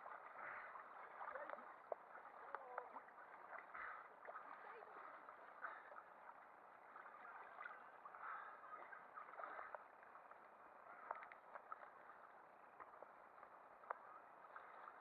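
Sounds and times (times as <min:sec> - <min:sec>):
water lapping and sloshing: 0:00.0 - 0:15.0.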